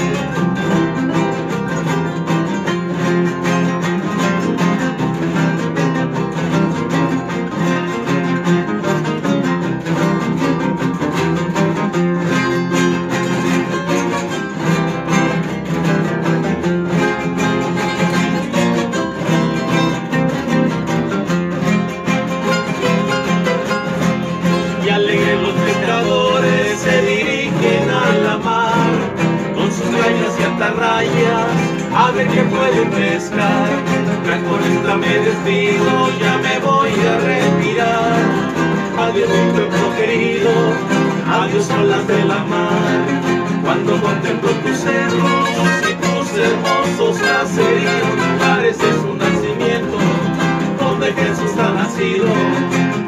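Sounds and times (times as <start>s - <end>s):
acoustic guitars strumming: 0.0s - 53.0s
picked guitar melody: 0.0s - 53.0s.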